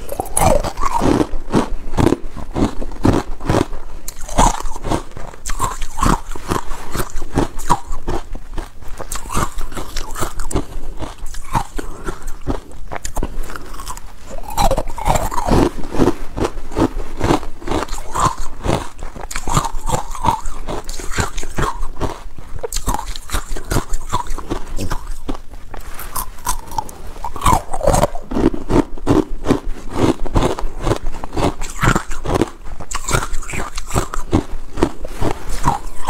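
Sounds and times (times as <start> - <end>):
ice cubes crunching when chewed: 0.0 - 36.0.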